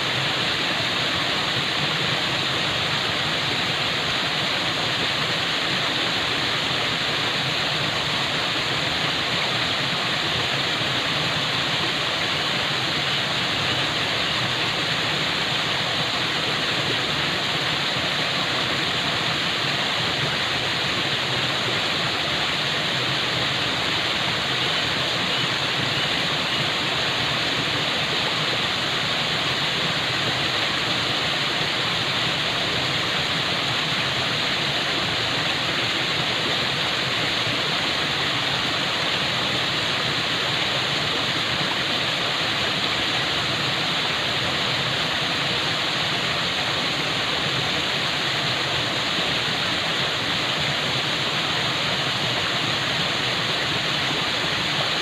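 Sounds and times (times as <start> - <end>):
falling water rushing: 0.0 - 55.0.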